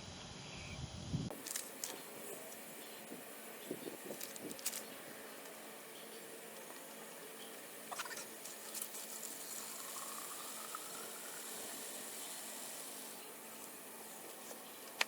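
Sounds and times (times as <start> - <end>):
hose sprayer hissing: 1.3 - 15.0.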